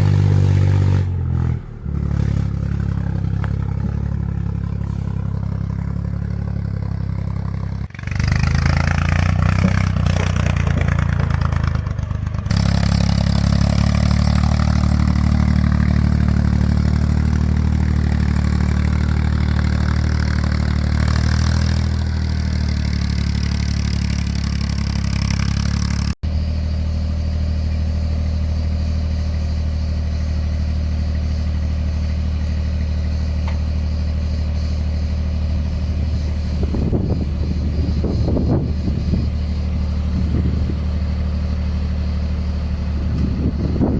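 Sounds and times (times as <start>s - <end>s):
engine running under load: 0.0s - 43.9s.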